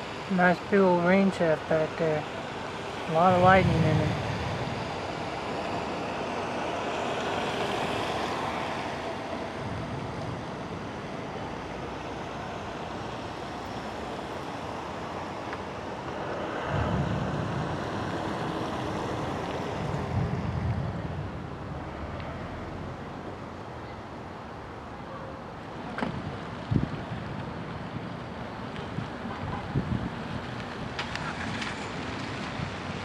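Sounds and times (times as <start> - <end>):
strong wind blowing: 0.0 - 24.0, 25.2 - 33.0
wind gusts buffeting microphone: 0.0 - 24.7, 25.6 - 33.0
heavy rain: 0.0 - 33.0.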